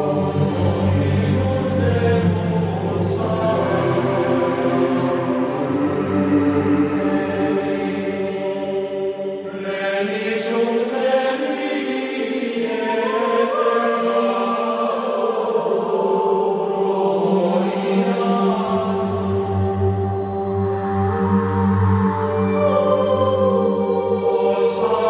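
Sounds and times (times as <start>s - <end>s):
slow choral chant: 0.0s - 25.0s.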